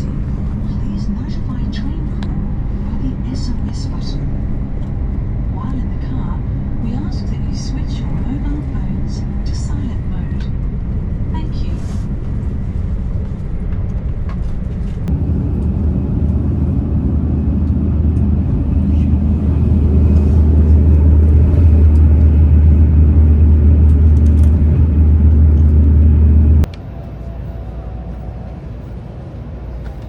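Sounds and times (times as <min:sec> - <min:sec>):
train rumbling at speed: 0:00.0 - 0:30.0.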